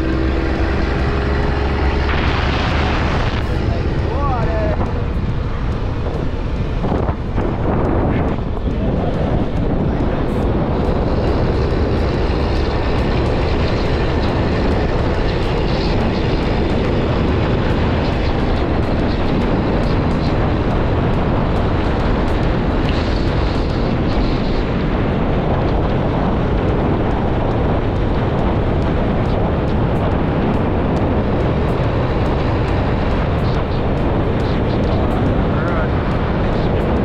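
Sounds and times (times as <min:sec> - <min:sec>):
road noise from moving vehicle: 0:00.0 - 0:37.0
wind rushing: 0:00.0 - 0:37.0.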